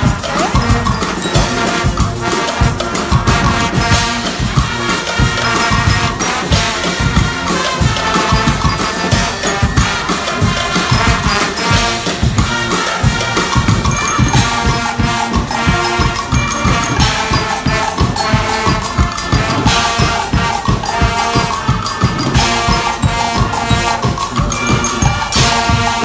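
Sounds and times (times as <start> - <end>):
loud brass: 0.0 - 26.0
steady drum beat: 0.0 - 26.0.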